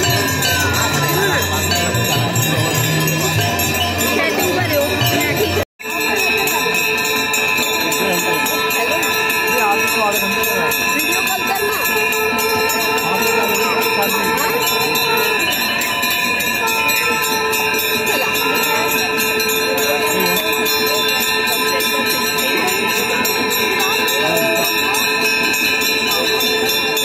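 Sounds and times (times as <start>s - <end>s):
hand bells ringing: 0.0s - 27.0s.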